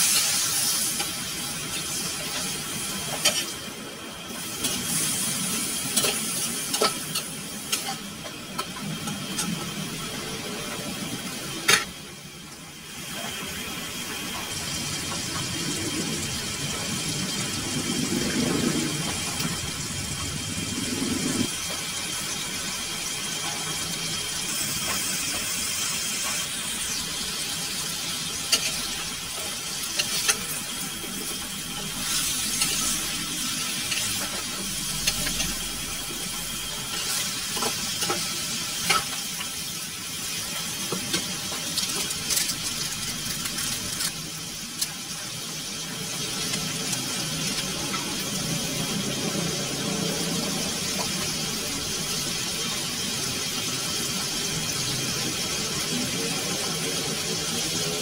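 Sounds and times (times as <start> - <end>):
chicken sizzling in a wok: 0.0 - 58.0.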